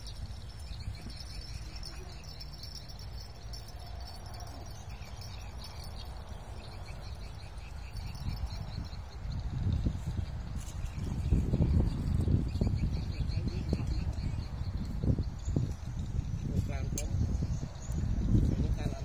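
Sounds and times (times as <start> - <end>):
insects chirping: 0.0 - 19.0
wind rumble on microphone: 0.0 - 19.0.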